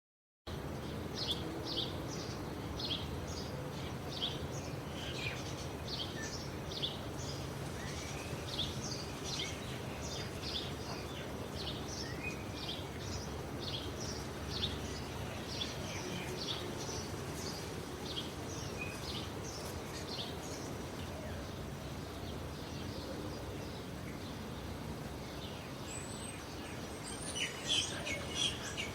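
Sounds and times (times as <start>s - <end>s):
small birds chirping: 0.5s - 28.9s.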